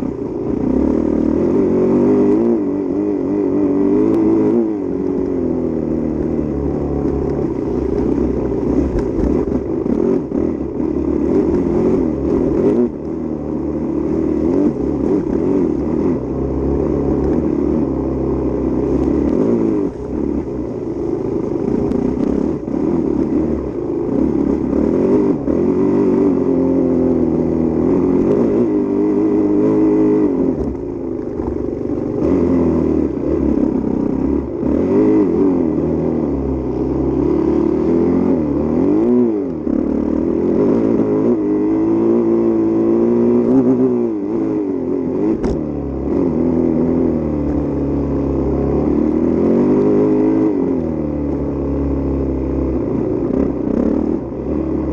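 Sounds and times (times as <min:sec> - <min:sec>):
dirt bike engine revving: 0:00.0 - 0:30.8, 0:32.2 - 0:54.9.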